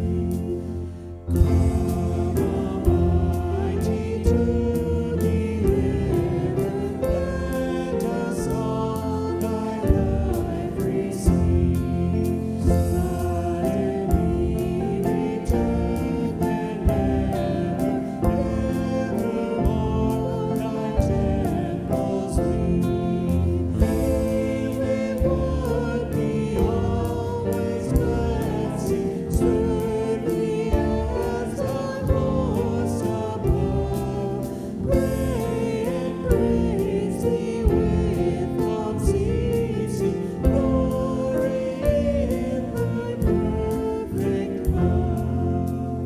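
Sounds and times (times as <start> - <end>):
group singing worship song: 0.0 - 46.0
guitar: 0.0 - 46.0
piano: 0.0 - 46.0.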